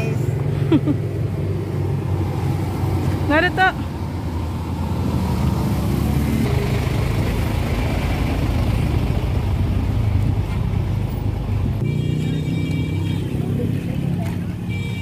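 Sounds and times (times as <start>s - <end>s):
heavy truck engine rumble: 0.0s - 15.0s.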